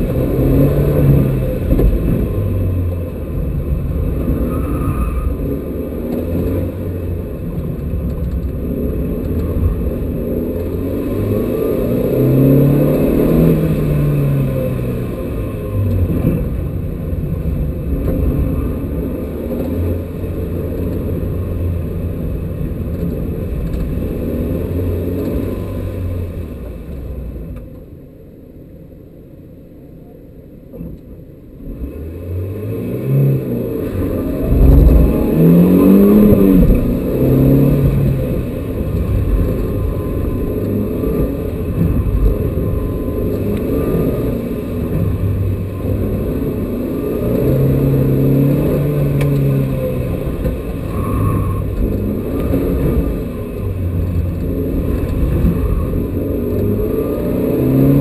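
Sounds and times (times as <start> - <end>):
car engine revving: 0.0 - 27.6, 30.8 - 58.0.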